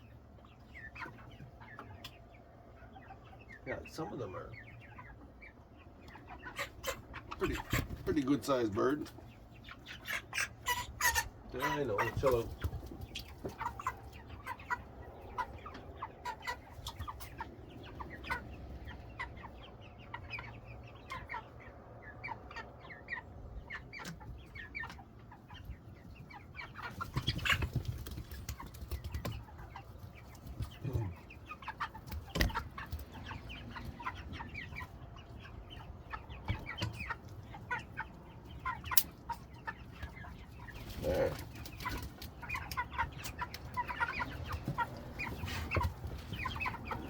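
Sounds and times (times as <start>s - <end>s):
chickens clucking and peeping: 0.0s - 47.0s.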